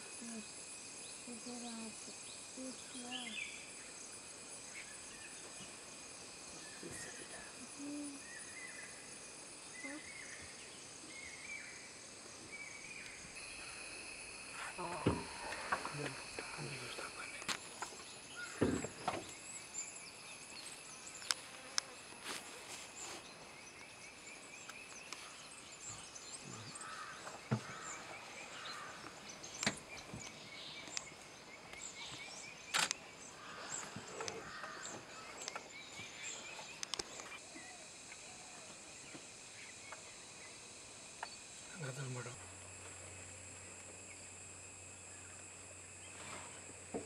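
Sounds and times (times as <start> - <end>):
insects trilling: 0.0 - 47.0
small birds chirping: 0.0 - 47.0.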